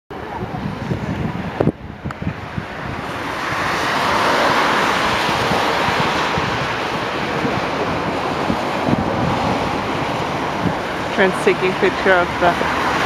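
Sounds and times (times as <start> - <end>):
tyres hissing on wet road: 0.2 - 13.0.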